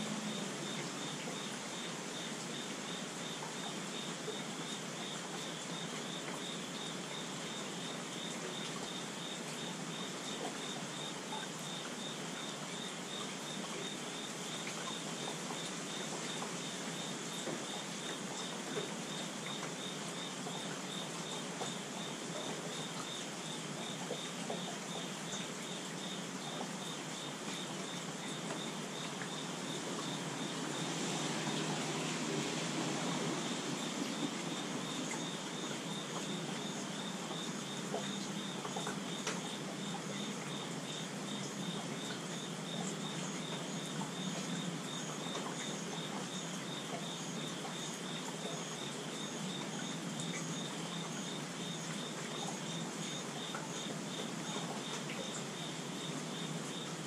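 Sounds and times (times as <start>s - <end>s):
insect chirping: 0.0s - 57.0s
steady rainfall: 0.0s - 57.0s.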